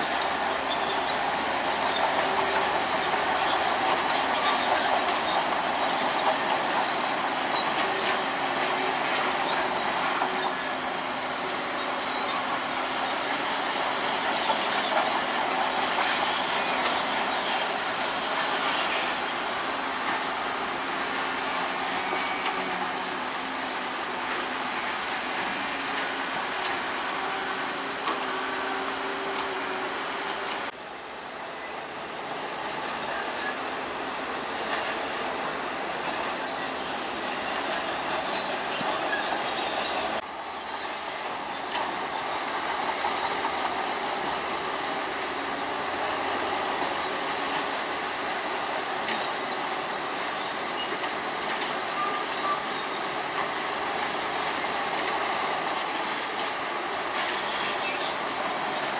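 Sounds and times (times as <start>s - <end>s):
metal tracks clanking and squealing: 0.0s - 30.7s, 31.4s - 58.9s
bulldozer diesel engine: 0.0s - 58.9s.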